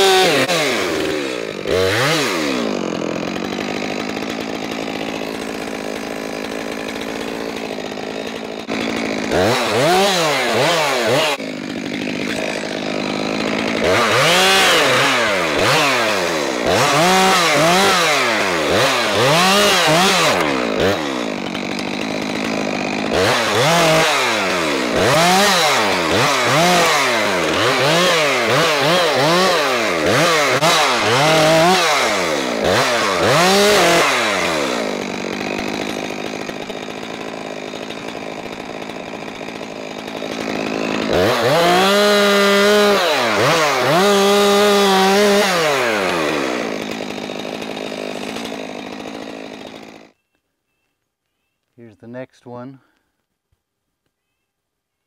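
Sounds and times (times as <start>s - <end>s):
chainsaw engine revving: 0.0s - 50.2s.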